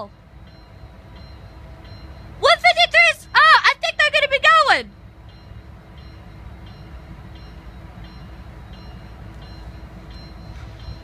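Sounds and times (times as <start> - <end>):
diesel locomotives idling: 0.0 - 11.0
locomotive bell ringing: 0.0 - 11.0.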